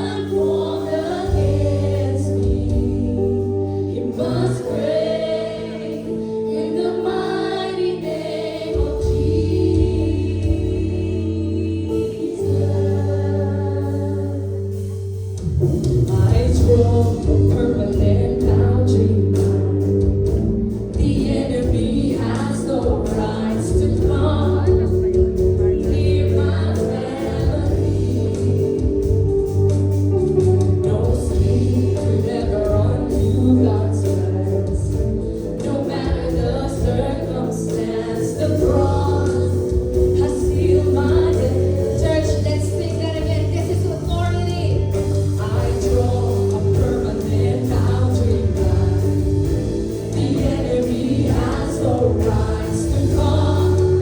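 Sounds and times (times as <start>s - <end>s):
group of singers: 0.0s - 54.0s
worship band playing: 0.0s - 54.0s.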